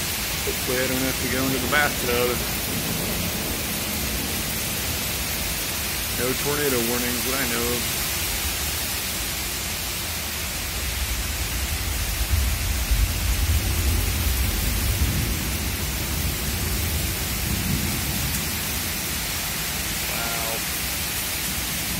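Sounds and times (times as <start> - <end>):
heavy rain pouring: 0.0 - 21.9.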